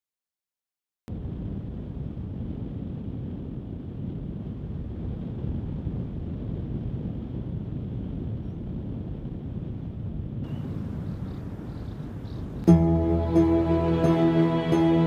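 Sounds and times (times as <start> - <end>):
low rushing wind noise: 1.1 - 15.0.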